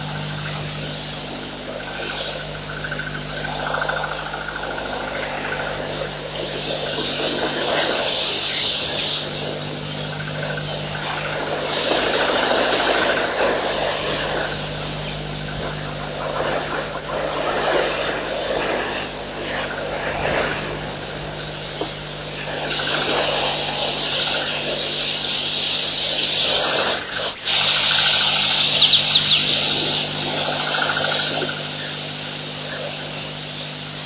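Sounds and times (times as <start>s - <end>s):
electrical hum and hiss: 0.0s - 34.0s.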